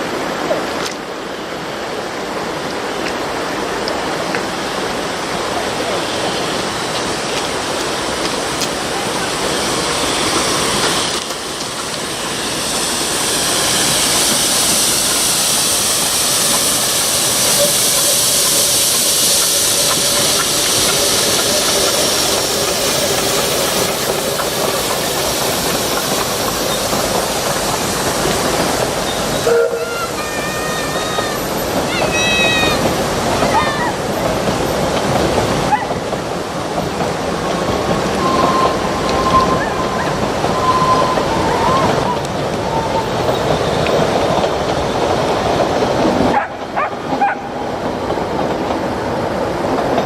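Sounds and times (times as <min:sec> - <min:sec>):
steam locomotive hissing: 0:00.0 - 0:50.0.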